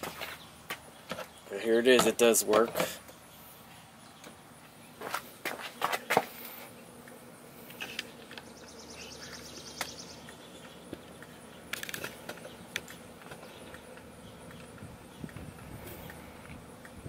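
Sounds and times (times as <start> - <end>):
table fan running: 0.0 - 17.0.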